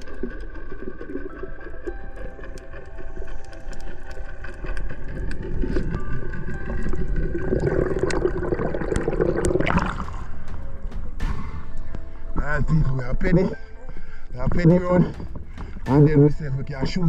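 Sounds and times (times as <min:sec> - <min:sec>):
water splashing against hull: 0:00.0 - 0:12.3, 0:12.9 - 0:17.0.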